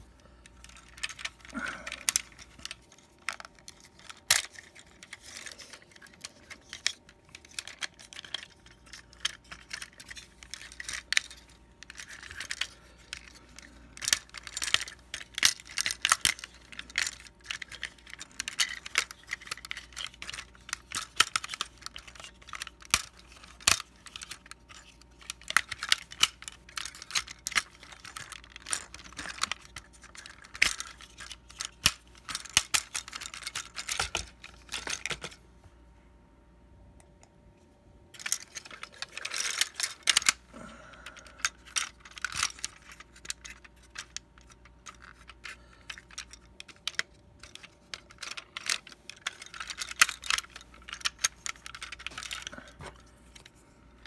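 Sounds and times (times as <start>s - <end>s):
plastic parts clicking and snapping: 0.4s - 35.4s, 38.1s - 54.0s.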